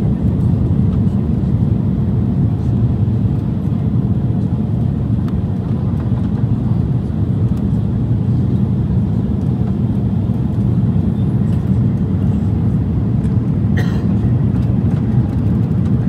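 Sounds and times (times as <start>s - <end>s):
airliner cabin roar: 0.0s - 16.0s.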